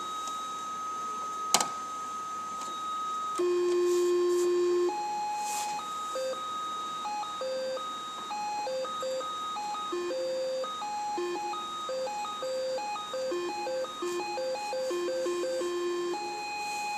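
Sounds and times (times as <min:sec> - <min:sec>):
electronic tone melody: 0:02.7 - 0:16.9.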